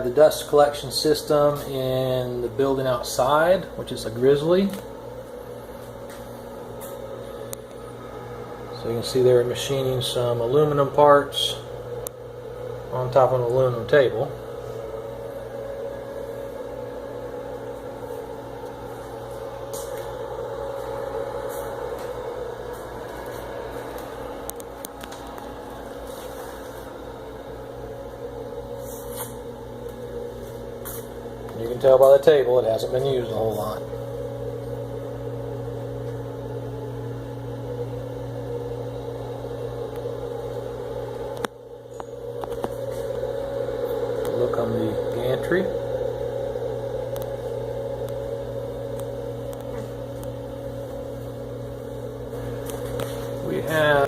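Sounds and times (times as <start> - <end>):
machine hum droning: 0.0 - 54.0.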